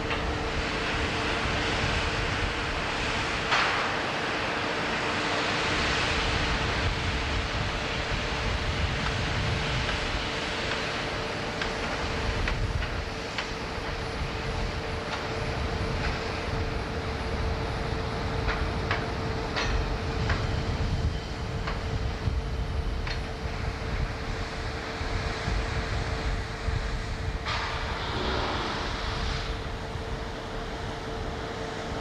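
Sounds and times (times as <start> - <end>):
industrial hum: 0.0 - 32.0.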